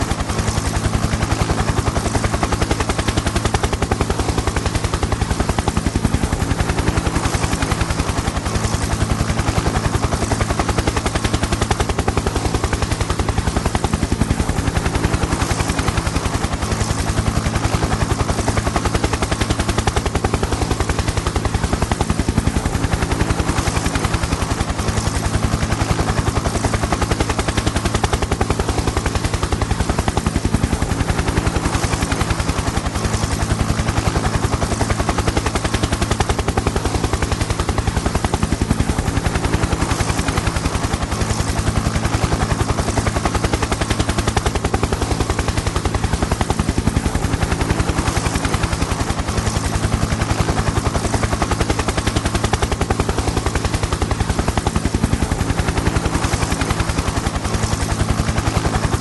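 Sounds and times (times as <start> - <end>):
helicopter engine drone: 0.0 - 59.0
helicopter rotor chop: 0.0 - 59.0.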